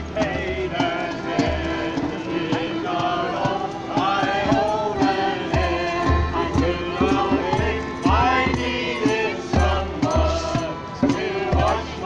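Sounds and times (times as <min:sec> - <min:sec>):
amplified backing music: 0:00.0 - 0:12.0
voices singing a hymn: 0:00.0 - 0:12.0.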